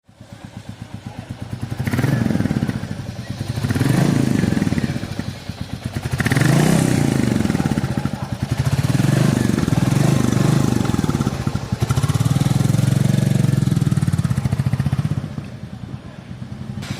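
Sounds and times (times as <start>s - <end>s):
motorcycle engine revving: 0.1s - 16.9s.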